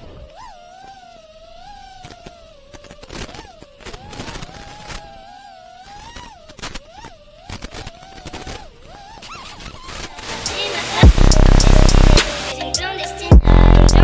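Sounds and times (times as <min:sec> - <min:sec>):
quadcopter motors whining: 0:00.0 - 0:12.6.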